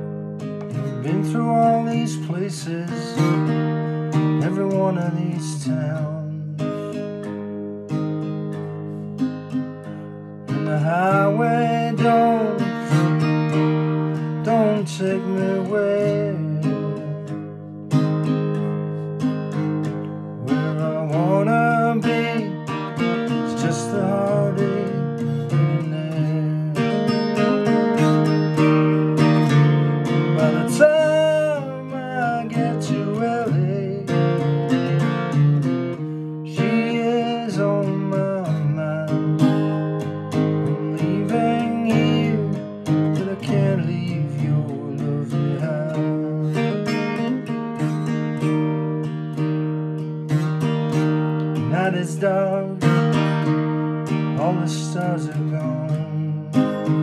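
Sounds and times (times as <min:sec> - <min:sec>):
acoustic guitar chords: 0:00.0 - 0:57.0
sliding melody: 0:00.0 - 0:57.0
man singing: 0:00.7 - 0:07.2, 0:10.5 - 0:18.4, 0:19.9 - 0:48.5, 0:51.6 - 0:57.0.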